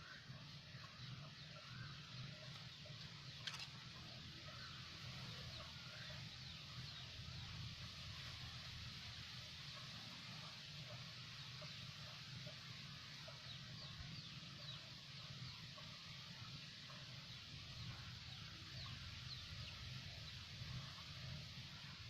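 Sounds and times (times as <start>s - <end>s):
birds chirping and clucking: 0.0s - 22.0s
steady low hum: 0.0s - 22.0s.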